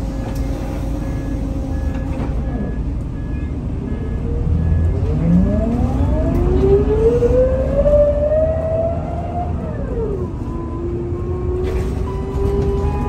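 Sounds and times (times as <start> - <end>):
bus engine rumble: 0.0 - 13.0
rising engine whine: 0.0 - 13.0.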